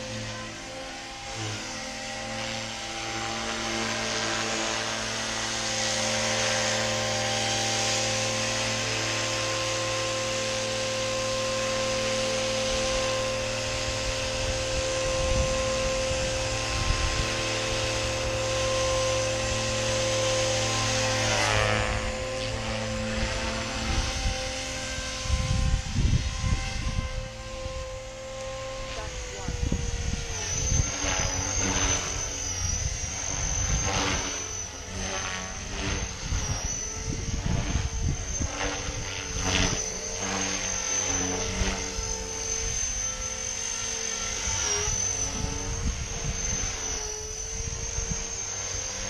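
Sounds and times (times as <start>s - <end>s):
rc helicopter motor whine: 0.0s - 49.0s.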